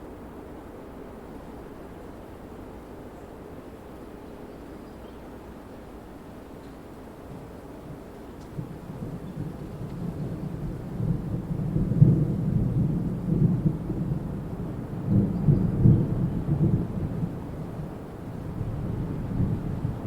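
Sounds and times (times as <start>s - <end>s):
wind gusting through trees: 0.0s - 20.0s.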